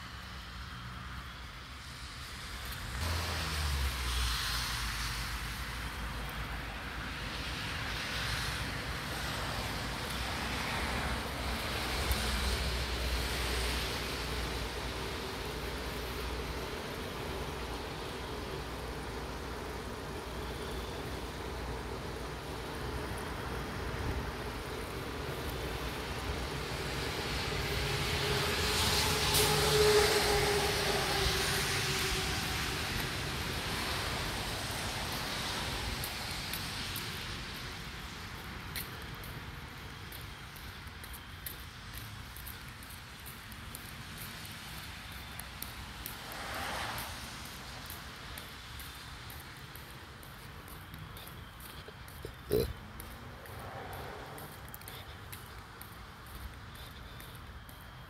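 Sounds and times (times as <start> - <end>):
hiss of wet street: 0.0 - 58.0.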